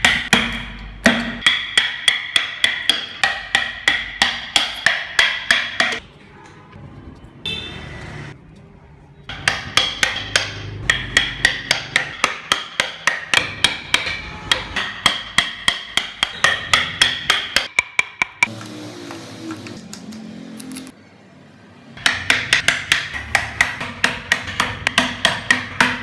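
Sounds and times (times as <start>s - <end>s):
hammer strikes: 0.0s - 6.0s, 9.3s - 20.3s, 22.0s - 26.0s.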